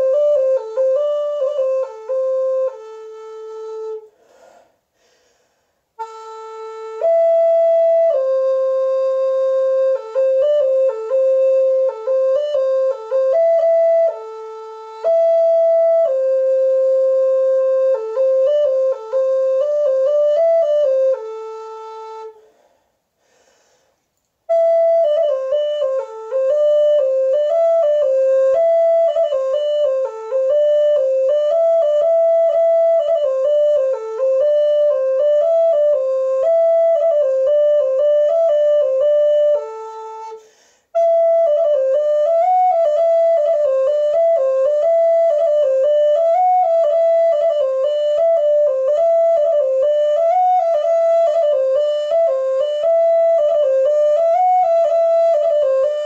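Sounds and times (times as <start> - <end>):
flute-like solo melody: 0.0 - 4.2, 6.0 - 22.4, 24.4 - 56.0.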